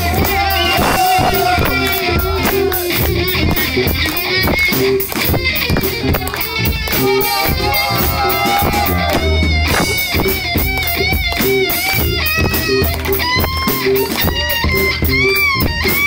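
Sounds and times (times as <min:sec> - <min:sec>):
driving drum beat: 0:00.0 - 0:16.0
electric guitar lines: 0:00.0 - 0:16.0.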